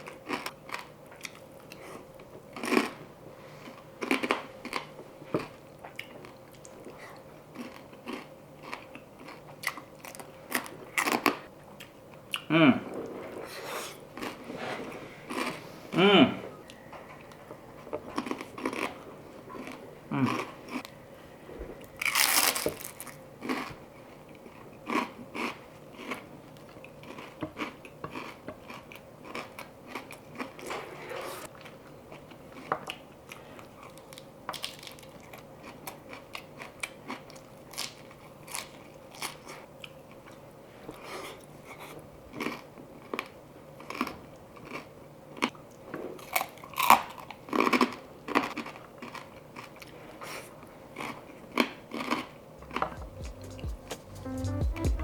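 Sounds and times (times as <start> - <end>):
chewing crunchy pork rinds: 0.0 - 12.5, 17.2 - 21.0, 21.8 - 40.5, 41.4 - 53.2.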